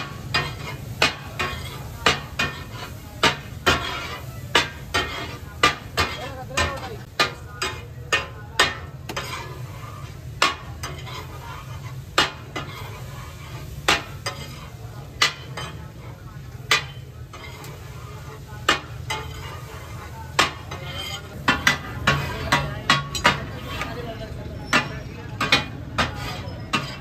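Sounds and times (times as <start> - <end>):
fish sizzling: 0.0 - 27.0
metal spatula clanking on griddle: 0.0 - 27.0.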